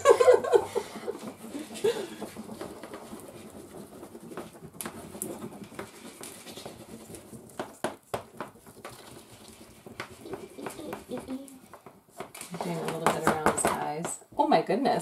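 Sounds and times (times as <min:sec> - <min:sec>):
crayons scratching on paper: 0:00.0 - 0:14.0.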